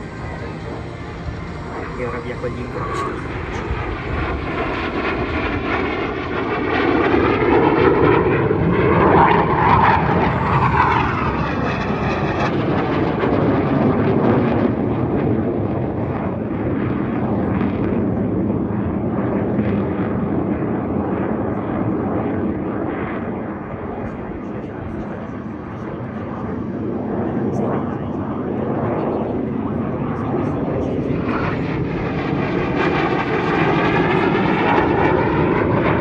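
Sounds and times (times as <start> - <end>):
jet aircraft passing low: 0.0 - 36.0.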